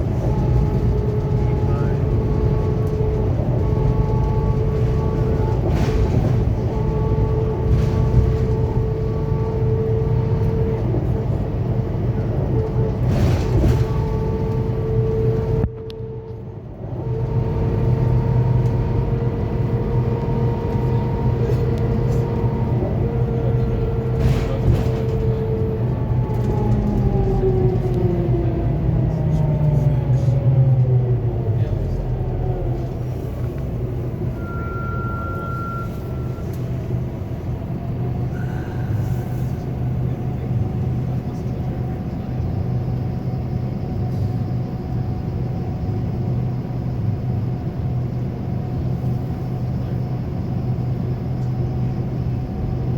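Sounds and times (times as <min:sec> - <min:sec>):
bus diesel engine rumble: 0:00.0 - 0:52.9
drivetrain whine: 0:00.0 - 0:52.9.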